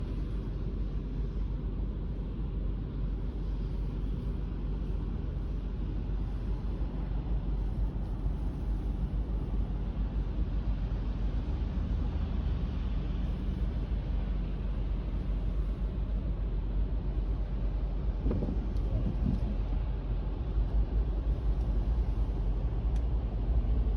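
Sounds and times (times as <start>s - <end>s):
low outdoor rumble: 0.0s - 23.9s.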